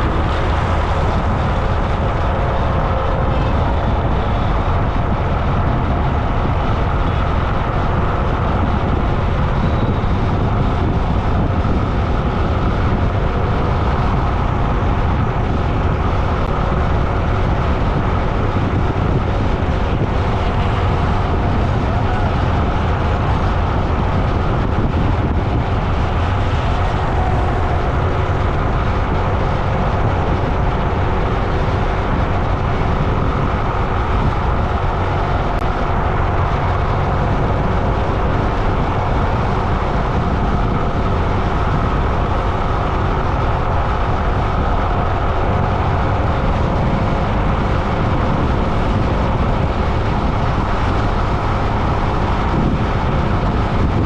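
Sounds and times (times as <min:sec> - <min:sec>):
vehicle road noise: 0:00.0 - 0:54.0.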